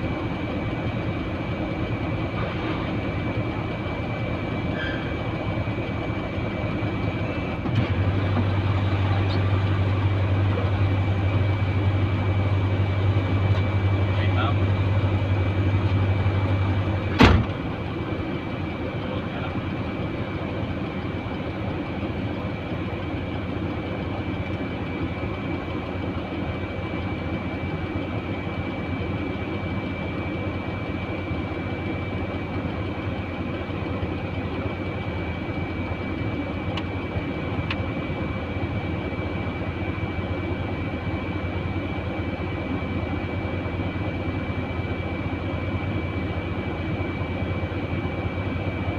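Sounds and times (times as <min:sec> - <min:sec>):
low hum: 0:00.0 - 0:48.9
machine high-pitched whine: 0:00.0 - 0:48.9.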